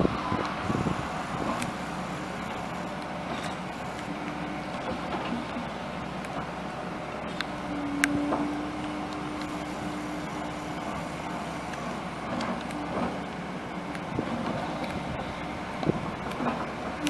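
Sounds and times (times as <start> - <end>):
excavator diesel engine running: 0.0 - 17.0
steady whine: 0.0 - 17.0.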